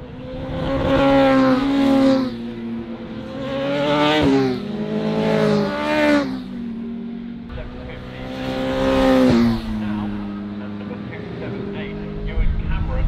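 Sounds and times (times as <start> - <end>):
racing motorcycles passing at speed: 0.0 - 13.0.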